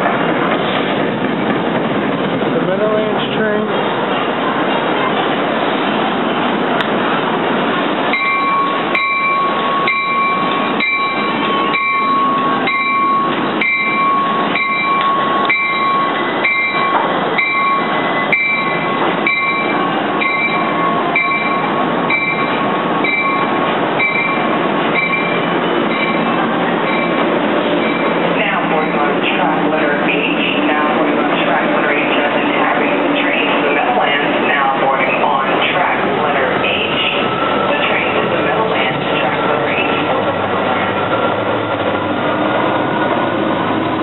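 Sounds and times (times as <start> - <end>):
train high whine: 0.0 - 44.0
train rumbling on rails: 0.0 - 44.0.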